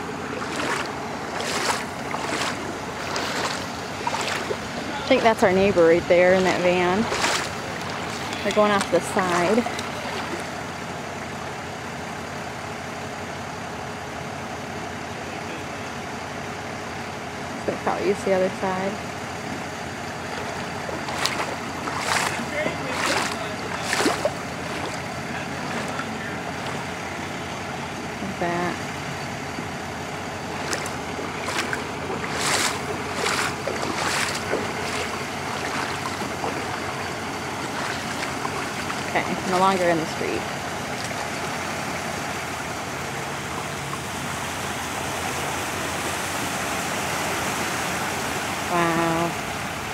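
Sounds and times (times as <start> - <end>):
floodwater sloshing and splashing: 0.0 - 12.4, 17.5 - 49.9
vehicle engine running: 0.0 - 49.9.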